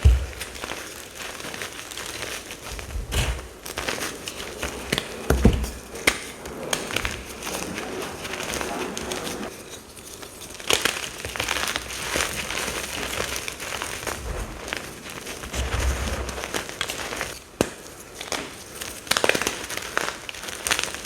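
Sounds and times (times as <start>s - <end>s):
powder bombs crunching: 0.0s - 9.4s, 10.5s - 18.0s.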